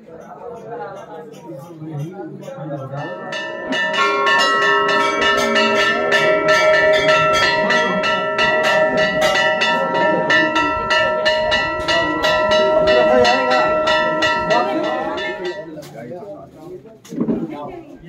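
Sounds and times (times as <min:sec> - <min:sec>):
temple bells ringing: 0:00.1 - 0:16.0.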